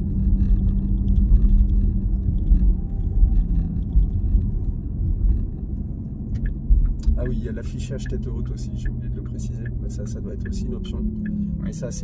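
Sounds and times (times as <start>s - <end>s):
low electric motor hum: 0.0s - 12.0s
road and tyre rumble: 0.0s - 12.0s.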